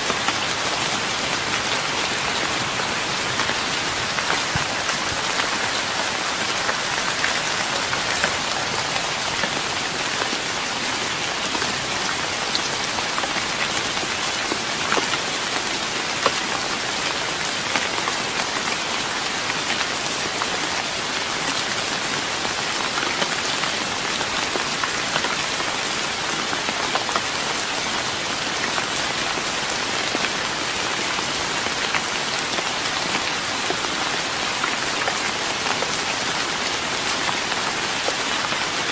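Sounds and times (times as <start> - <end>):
rain on wooden deck: 0.0 - 38.9.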